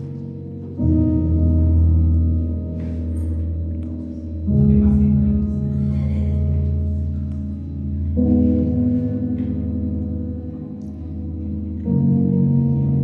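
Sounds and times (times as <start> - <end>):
low drone: 0.0 - 13.0.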